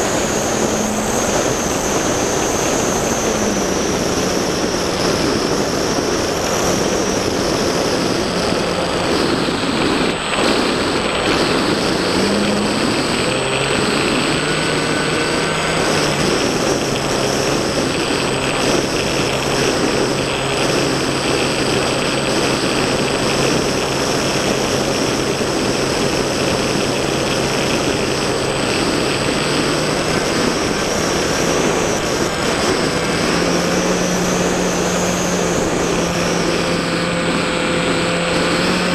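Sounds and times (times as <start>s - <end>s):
model airplane motor droning: 0.0s - 38.9s
wind noise: 0.0s - 38.9s.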